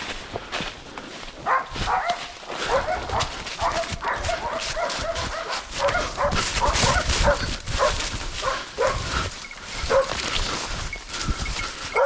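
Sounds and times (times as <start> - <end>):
rough rustling: 0.0 - 12.0
dogs yelping: 1.4 - 10.9, 11.6 - 12.0.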